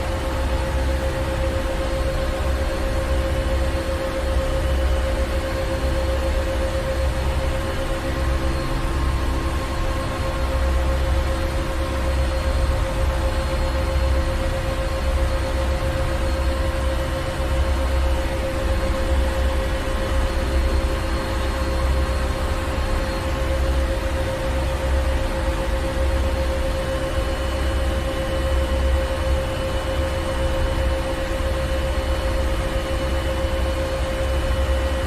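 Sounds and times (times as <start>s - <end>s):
constant mid-pitched hum: 0.0s - 35.0s.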